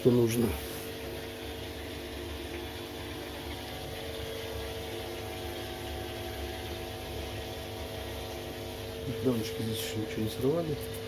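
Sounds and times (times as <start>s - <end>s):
drain pump pumping water: 0.0s - 11.0s
washing machine motor hum: 0.0s - 11.0s.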